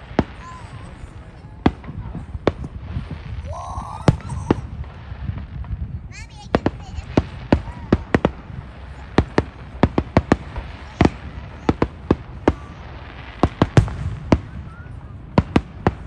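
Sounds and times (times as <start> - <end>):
fireworks bursting with sharp bangs: 0.0 - 16.0.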